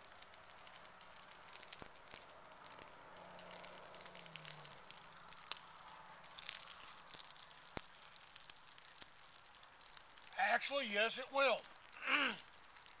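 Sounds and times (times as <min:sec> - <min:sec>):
tinder crackling and hissing: 0:00.0 - 0:13.0.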